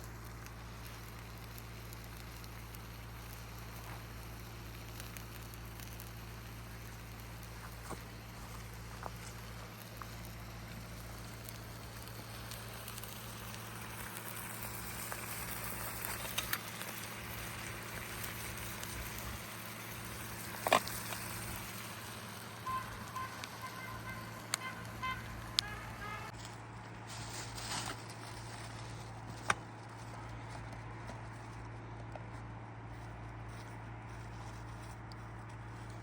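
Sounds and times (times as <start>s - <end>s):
campfire crackling and popping: 0.0s - 26.6s, 27.2s - 30.9s.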